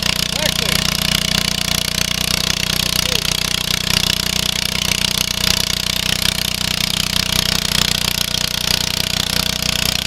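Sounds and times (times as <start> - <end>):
single-cylinder engine running: 0.0 - 10.0.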